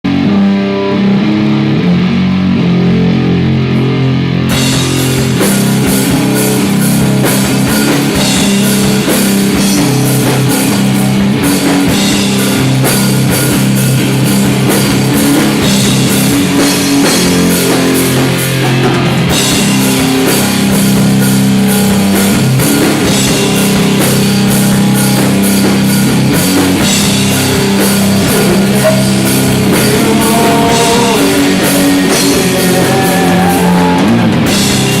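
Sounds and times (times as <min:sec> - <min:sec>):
guitar and bass chords: 0:00.0 - 0:35.0
drum kit and cymbals: 0:04.5 - 0:35.0.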